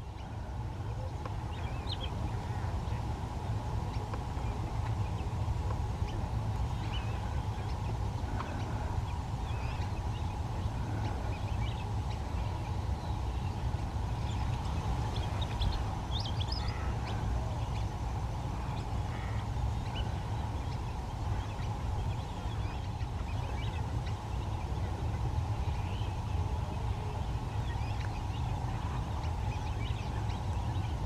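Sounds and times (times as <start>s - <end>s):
bird calls and chirps: 0.0s - 31.0s
low steady rumble: 0.0s - 31.0s.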